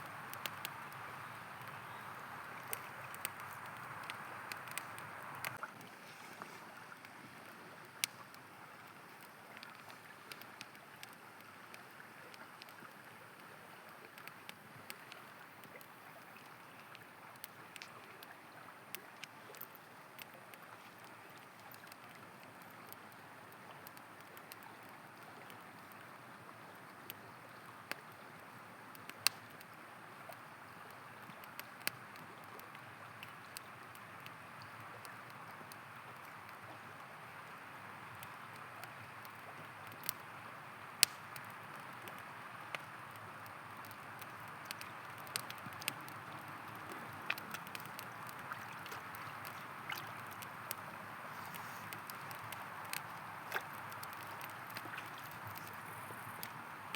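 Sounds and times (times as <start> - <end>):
campfire crackling and popping: 0.0 - 56.9
river flowing: 0.0 - 56.9.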